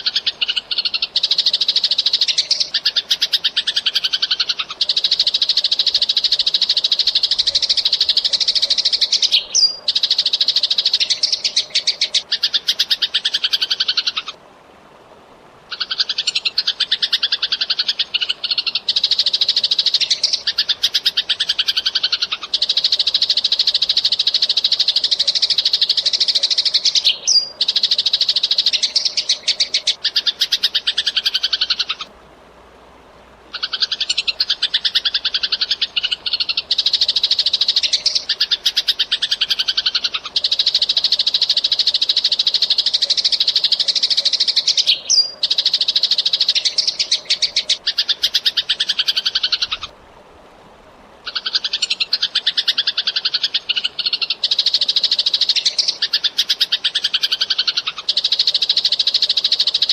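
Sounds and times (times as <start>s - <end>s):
sparrow chirping rapidly: 0.0s - 14.4s, 15.7s - 32.0s, 33.5s - 49.9s, 51.3s - 59.9s.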